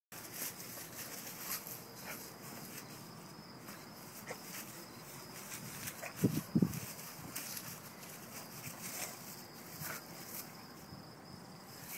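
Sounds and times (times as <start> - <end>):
dogs rustling in leaves: 0.1 - 10.8
steady high hiss: 0.2 - 11.9.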